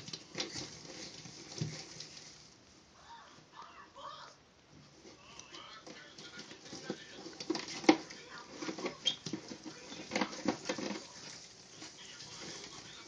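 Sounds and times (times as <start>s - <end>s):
claws scrabbling in bedding: 0.0s - 2.6s, 5.0s - 13.0s.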